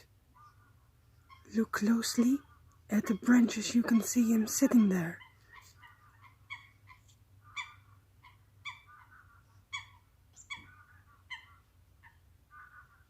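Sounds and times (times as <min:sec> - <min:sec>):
low background hum: 0:00.0 - 0:13.0
bird calling: 0:00.3 - 0:13.0.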